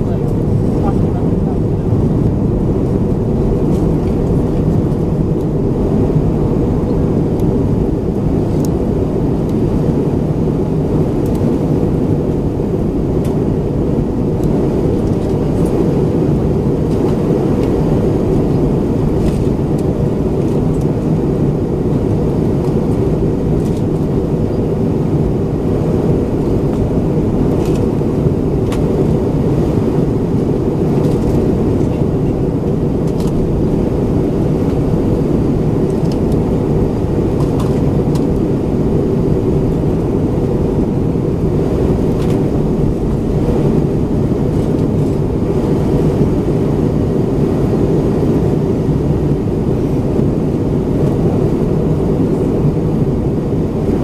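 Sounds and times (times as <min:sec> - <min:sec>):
aircraft cabin roar: 0:00.0 - 0:54.0.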